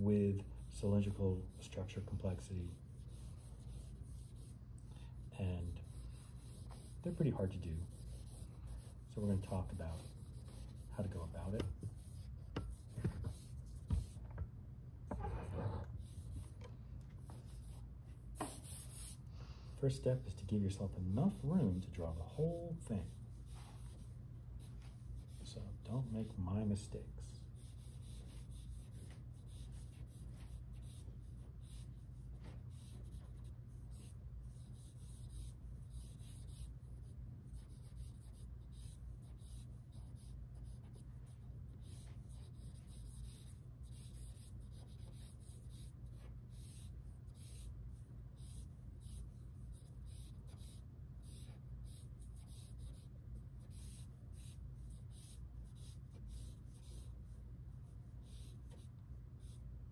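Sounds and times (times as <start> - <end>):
pencil scratching on paper: 0.0 - 14.2, 15.1 - 16.6, 17.2 - 17.8, 18.4 - 19.2, 21.0 - 26.4, 27.4 - 59.6
faint low hum: 0.0 - 59.9.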